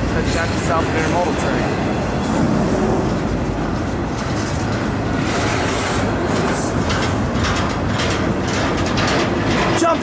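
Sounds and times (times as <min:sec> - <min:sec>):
freight train rolling past: 0:00.0 - 0:10.0.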